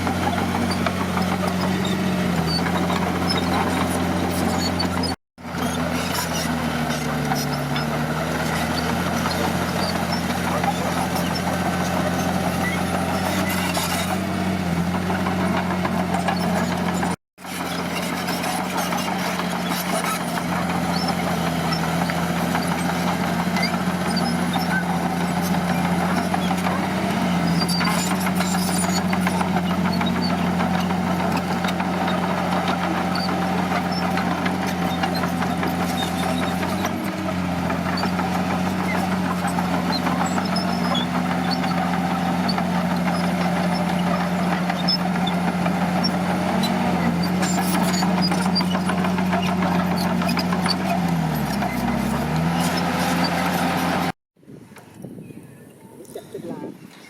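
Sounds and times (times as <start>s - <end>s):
heavy diesel engine running: 0.0s - 54.2s.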